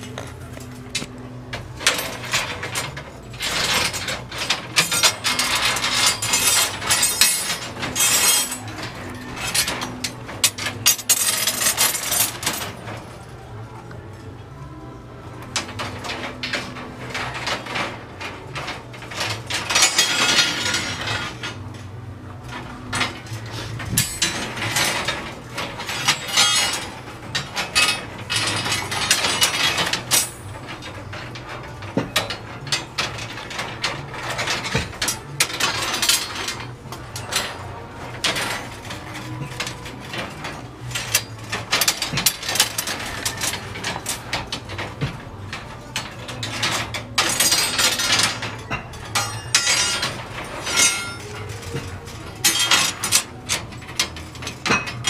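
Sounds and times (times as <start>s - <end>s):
steel rebar clinking and scraping: 0.0s - 13.9s, 15.4s - 55.0s.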